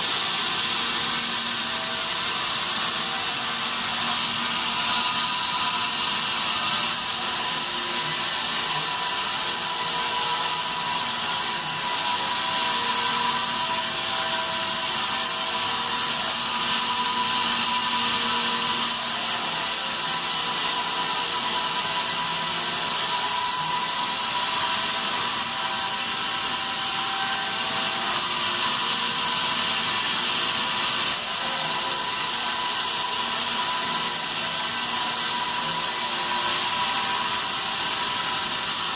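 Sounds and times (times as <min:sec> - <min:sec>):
bandsaw cutting wood hiss: 0:00.0 - 0:38.9.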